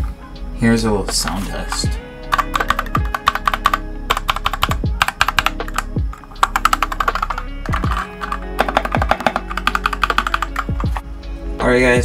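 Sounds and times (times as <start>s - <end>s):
background music with low beat: 0.0s - 12.0s
mechanical keyboard typing: 1.2s - 11.0s.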